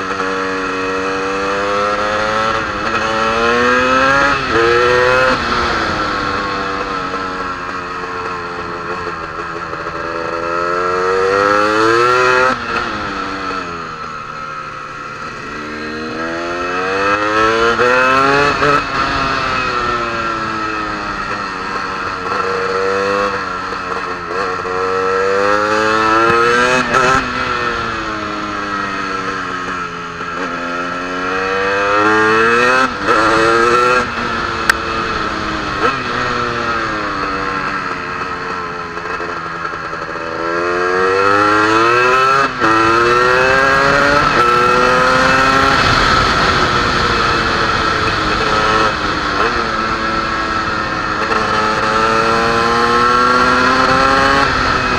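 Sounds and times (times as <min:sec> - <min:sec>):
two-stroke dirt bike engine revving: 0:00.0 - 0:54.9.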